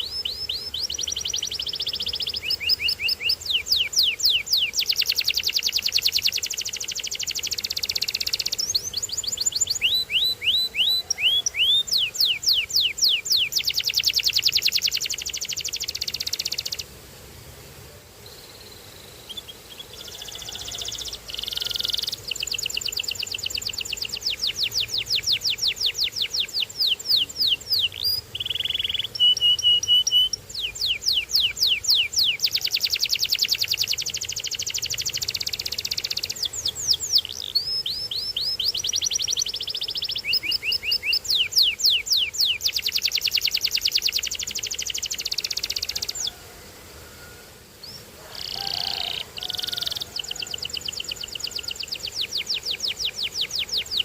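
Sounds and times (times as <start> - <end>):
canary singing: 0.0 - 16.9, 19.1 - 46.4, 47.2 - 54.0.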